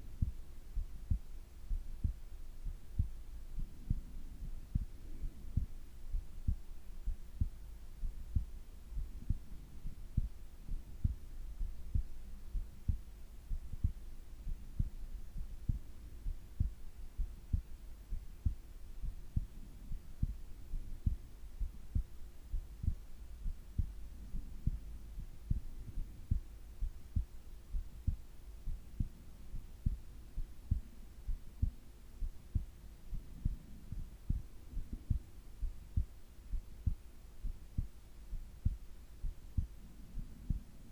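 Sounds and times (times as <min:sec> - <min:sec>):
faint steady hum: 0:00.0 - 0:40.9
heartbeat thumps: 0:00.0 - 0:40.9.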